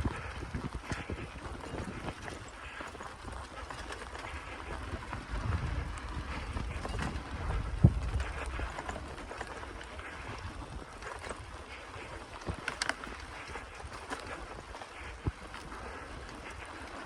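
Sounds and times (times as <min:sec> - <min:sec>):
bicycle tyre noise: 0:00.0 - 0:17.0
small clicks and rattles: 0:00.0 - 0:17.0
wind rumble on microphone: 0:00.0 - 0:17.0.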